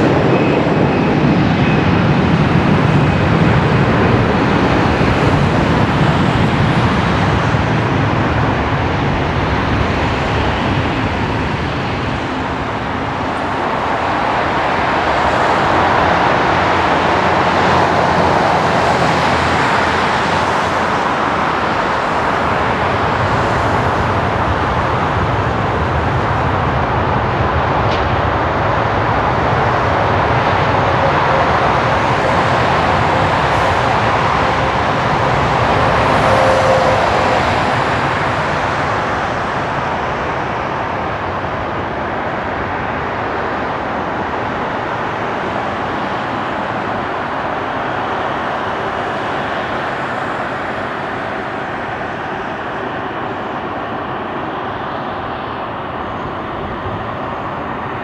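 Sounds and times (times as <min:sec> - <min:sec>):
ground vehicles running: 0:00.0 - 0:58.0
jet engines: 0:00.0 - 0:58.0.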